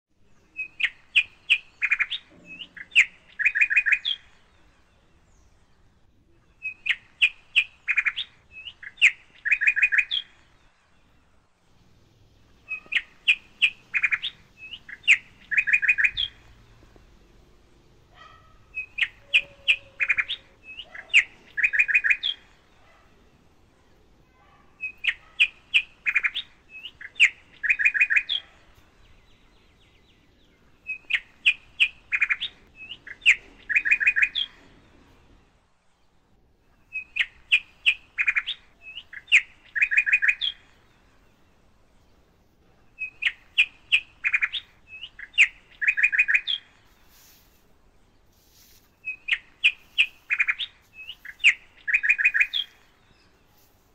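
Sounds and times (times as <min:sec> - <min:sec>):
bird song with chirps and trill: 0:00.1 - 0:53.9.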